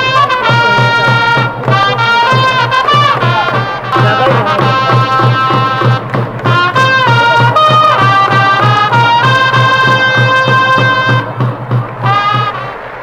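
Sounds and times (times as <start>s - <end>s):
steady bass drum beat: 0.0s - 12.4s
trumpets playing fight song: 0.0s - 13.0s.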